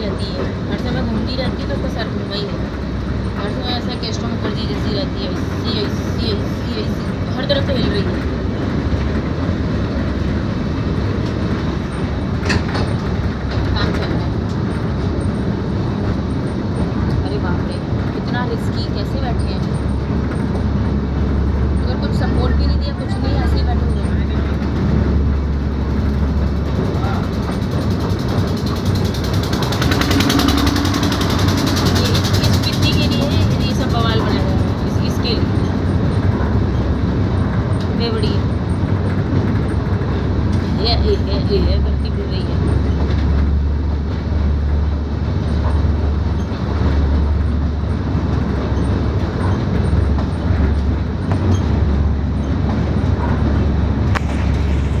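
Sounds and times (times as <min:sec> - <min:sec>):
train coach rumbling and rattling: 0:00.0 - 0:55.0.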